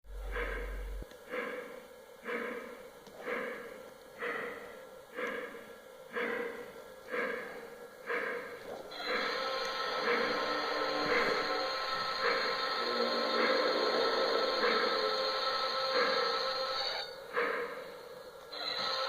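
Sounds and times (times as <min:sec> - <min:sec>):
faint steady hum: 0:00.1 - 0:19.0
toy steam train chuffing: 0:00.2 - 0:19.0.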